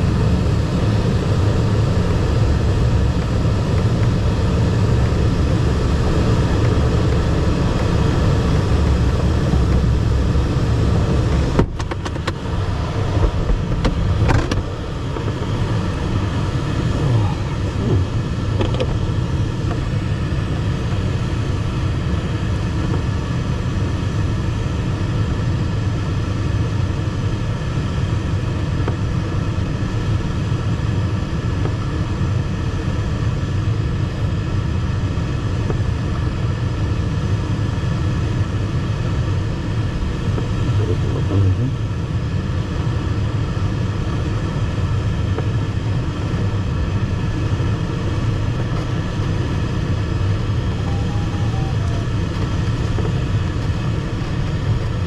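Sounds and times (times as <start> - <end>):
glider cockpit rumble: 0.0 - 55.0.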